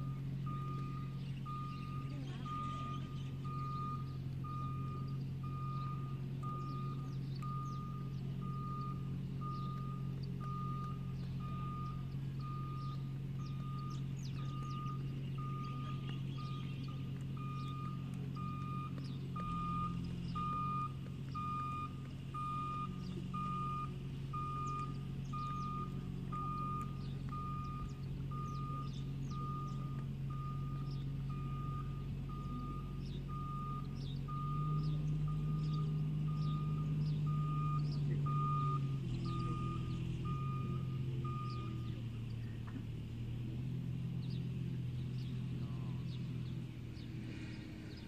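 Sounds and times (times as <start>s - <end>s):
reversing alarm beeping: 0.0s - 42.3s
vehicle engine droning: 0.0s - 48.0s.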